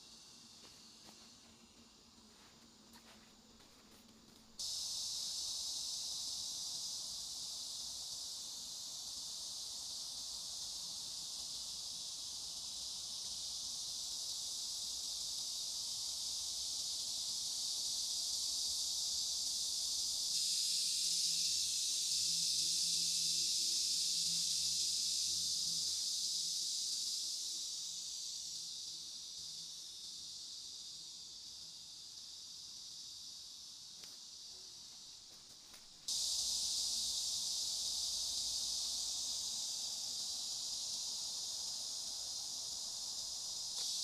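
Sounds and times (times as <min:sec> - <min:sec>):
high-pitched forest hiss: 0:00.0 - 0:44.0.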